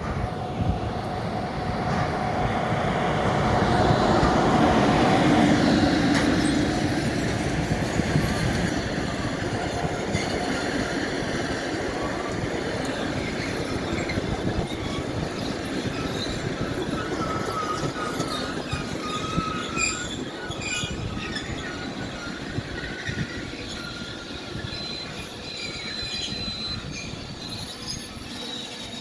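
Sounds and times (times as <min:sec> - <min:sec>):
train wheels rumbling on rails: 0:00.0 - 0:29.0
wheel and brake squeals: 0:01.0 - 0:29.0.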